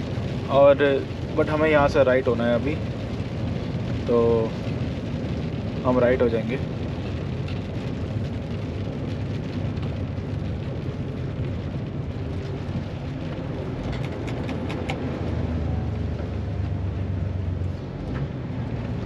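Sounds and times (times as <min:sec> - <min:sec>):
tyres hissing on wet road: 0:00.0 - 0:19.0.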